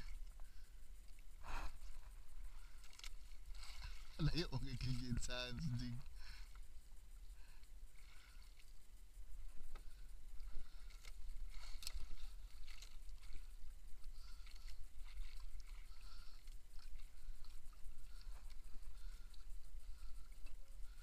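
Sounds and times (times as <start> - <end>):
steady low rumble: 0.0 - 21.0
water lapping against boat hull: 0.0 - 21.0.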